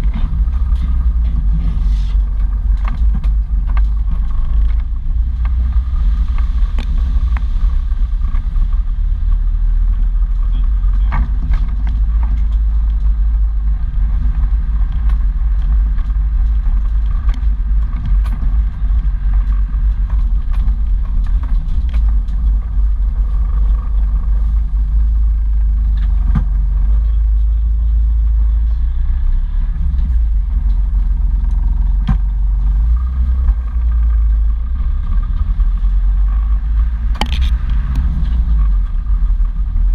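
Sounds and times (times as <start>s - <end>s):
vehicle engine low rumble: 0.0s - 39.9s.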